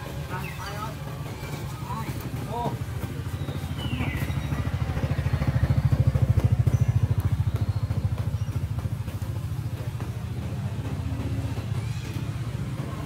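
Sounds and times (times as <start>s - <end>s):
engine throbbing: 0.0s - 13.0s.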